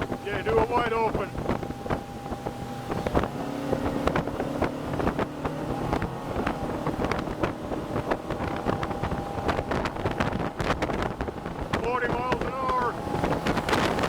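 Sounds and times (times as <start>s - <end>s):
outboard engine hum: 0.0s - 14.0s
wind on microphone: 0.0s - 14.0s.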